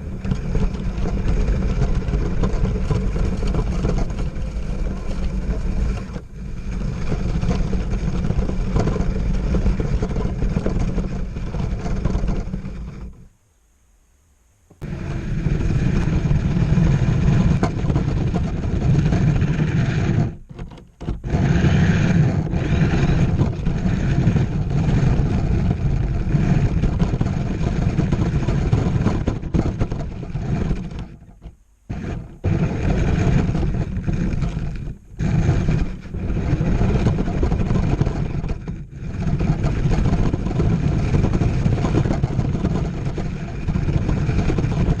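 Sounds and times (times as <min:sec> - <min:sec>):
rc truck rumbling with whine: 0:00.0 - 0:13.4, 0:14.8 - 0:45.0.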